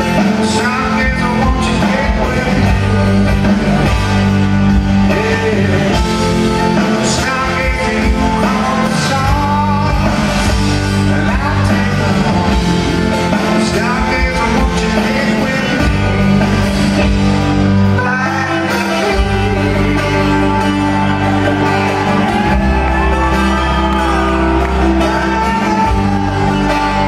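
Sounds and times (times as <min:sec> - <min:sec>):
live rock band playing: 0:00.0 - 0:27.0
person singing: 0:00.0 - 0:27.0.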